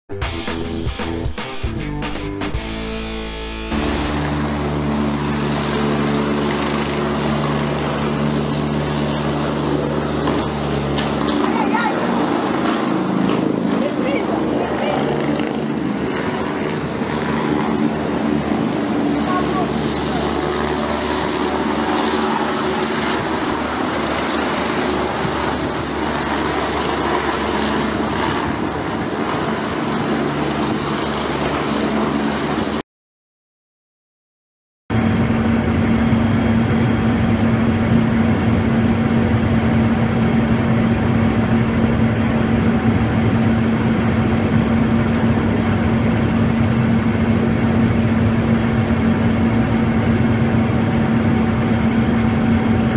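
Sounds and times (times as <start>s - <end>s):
helicopter hovering: 2.5s - 32.8s, 34.9s - 52.9s.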